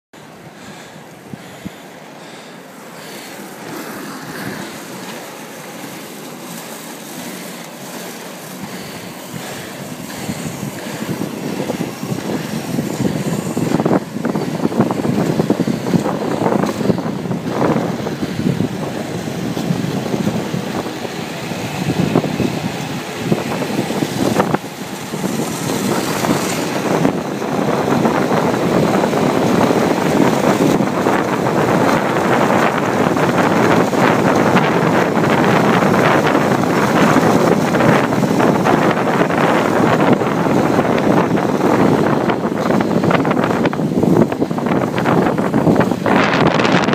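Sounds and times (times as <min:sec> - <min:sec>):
skate wheels rolling on asphalt: 0:00.2 - 0:46.9
wind rushing over microphone: 0:00.2 - 0:46.9.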